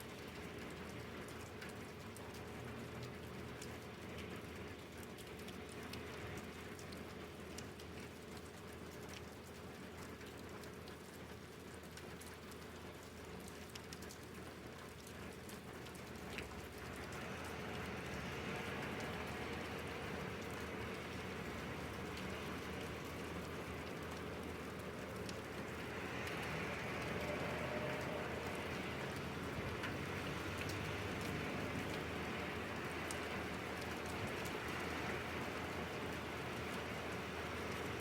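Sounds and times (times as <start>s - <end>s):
rain drops ticking on surfaces: 0.0s - 38.0s.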